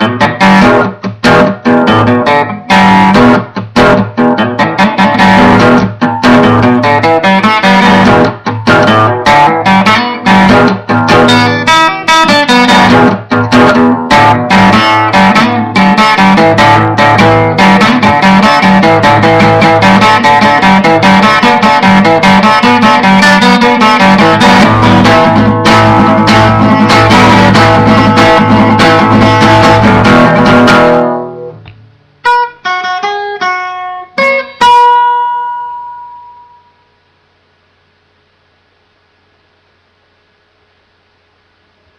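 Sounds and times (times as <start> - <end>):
guitar strumming and picking: 0.0 - 36.7.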